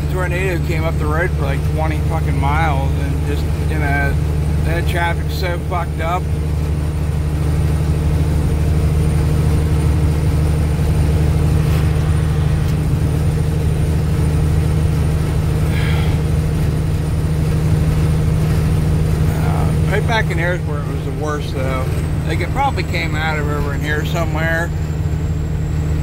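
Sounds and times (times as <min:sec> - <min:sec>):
diesel truck engine drone: 0:00.0 - 0:26.0
road noise: 0:00.0 - 0:26.0.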